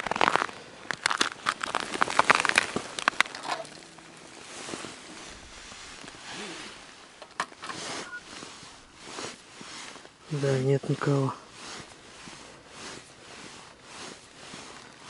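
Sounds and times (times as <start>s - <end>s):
faint rustling: 0.0s - 15.0s
footsteps crunching on snow: 0.0s - 15.0s.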